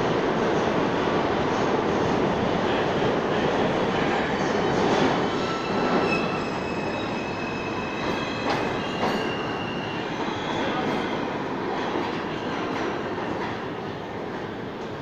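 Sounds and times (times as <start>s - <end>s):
subway train moving along track: 0.0s - 15.0s.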